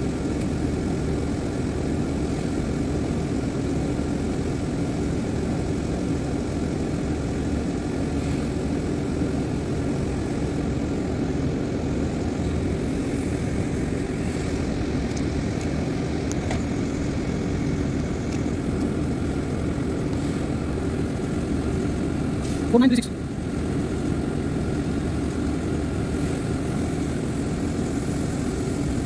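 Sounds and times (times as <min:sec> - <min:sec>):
tow truck engine drone: 0:00.0 - 0:29.0.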